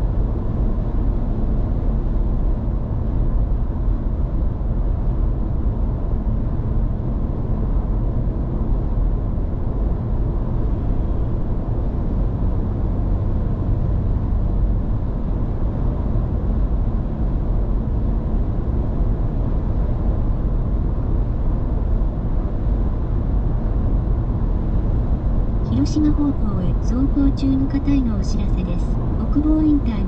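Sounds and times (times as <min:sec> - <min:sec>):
road and tyre noise in car cabin: 0:00.0 - 0:30.0.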